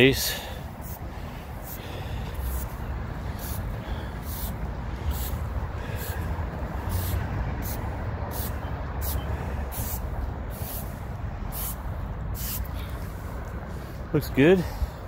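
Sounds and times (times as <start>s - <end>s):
steady low rumble: 0.0s - 15.0s
broom swishing on concrete: 0.8s - 14.1s.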